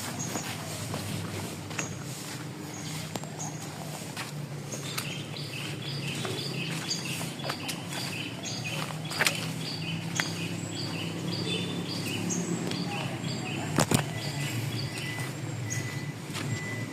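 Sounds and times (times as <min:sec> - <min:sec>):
bird chirps: 0:00.0 - 0:16.9.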